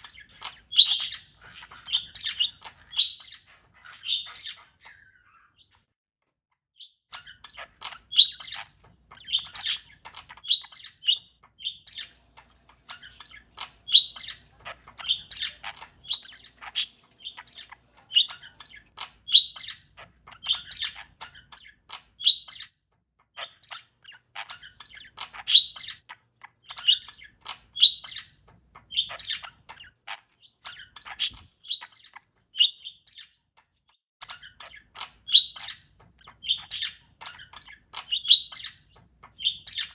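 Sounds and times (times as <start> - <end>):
parakeet chirping and squawking: 0.0 - 5.9, 6.8 - 39.9.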